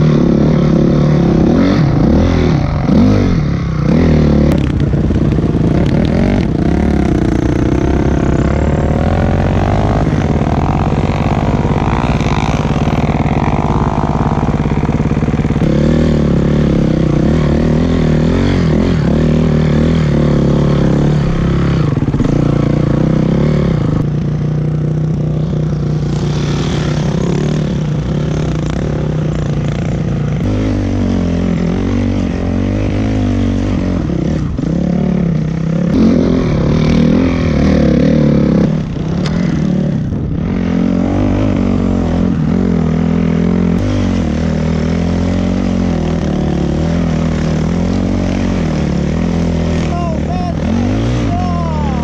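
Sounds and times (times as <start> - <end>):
dirt bike engines revving: 0.0 - 52.0.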